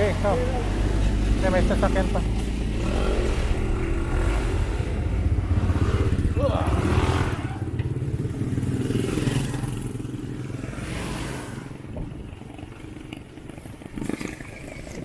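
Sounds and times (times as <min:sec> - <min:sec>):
vehicle engine pulling away: 0:00.0 - 0:15.0.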